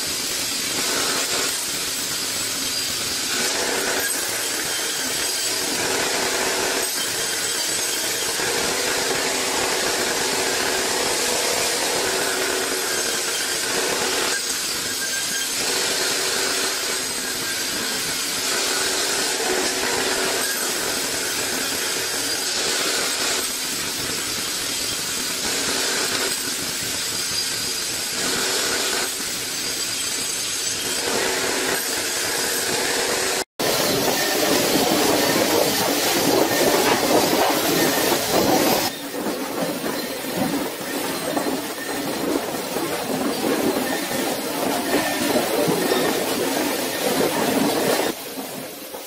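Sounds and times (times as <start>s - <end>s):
band saw rasping through log: 0.0s - 48.3s.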